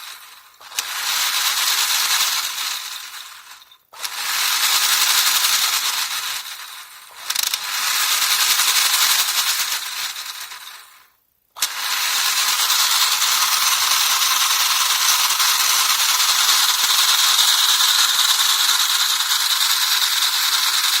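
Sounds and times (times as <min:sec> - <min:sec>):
toy train motor whirring: 0:00.0 - 0:21.0.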